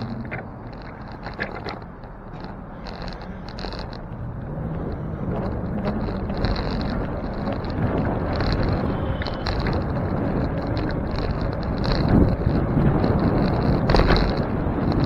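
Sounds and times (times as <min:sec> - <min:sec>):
tyres rumbling over road: 0:00.0 - 0:15.0
wind buffeting microphone: 0:00.0 - 0:15.0.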